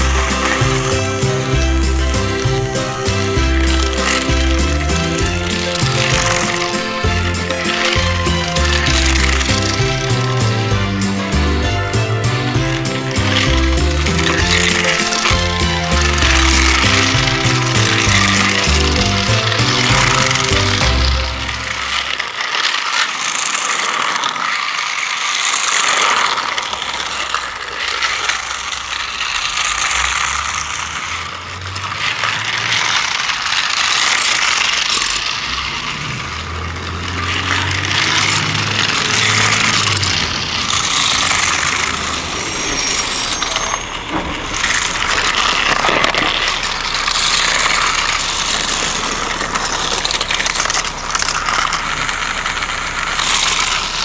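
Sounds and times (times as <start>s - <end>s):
toy car motor rattling on track: 0.0s - 54.0s.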